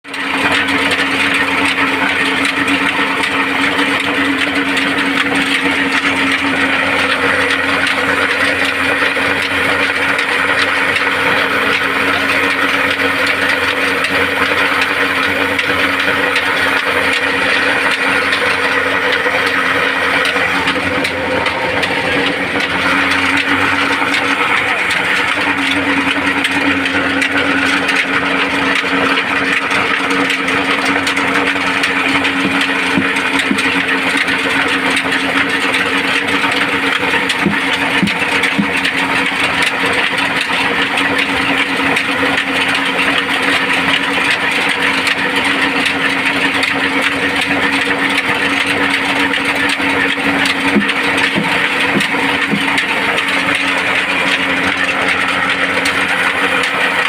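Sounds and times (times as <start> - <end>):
large machinery engine running: 0.0 - 57.0.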